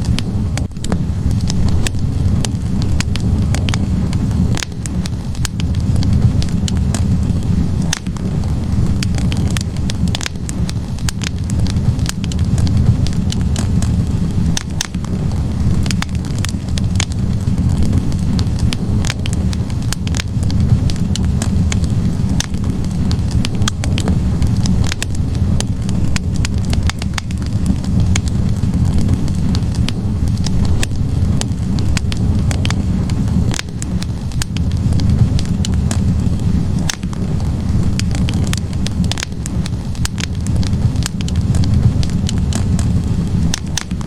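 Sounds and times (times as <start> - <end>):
burning logs crackling and popping: 0.0 - 44.0
fire flames roaring: 0.0 - 44.0.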